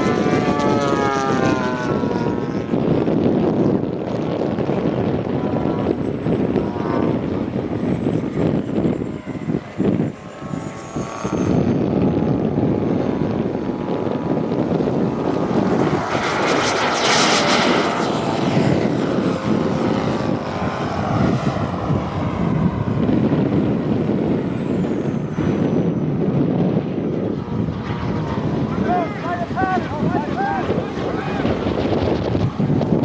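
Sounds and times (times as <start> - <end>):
jet rushing pass: 0.0 - 33.0
model jet turbine roar: 0.0 - 33.0.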